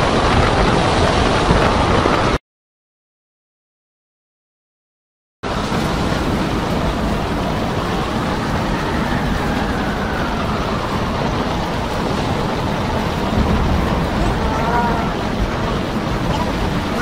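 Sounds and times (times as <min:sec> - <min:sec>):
storm wind buffeting the microphone: 0:00.0 - 0:02.4, 0:05.4 - 0:17.0.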